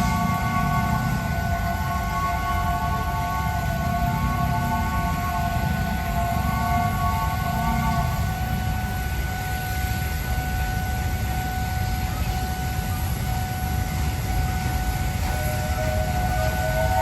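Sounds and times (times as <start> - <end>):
faint steady tone: 0.0 - 17.0
steam train rumbling: 0.0 - 17.0
train whistle: 0.0 - 17.0.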